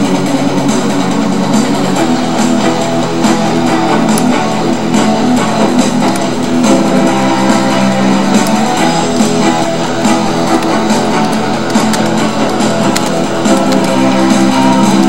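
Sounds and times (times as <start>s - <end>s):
guitar music with steady beat: 0.0s - 15.0s.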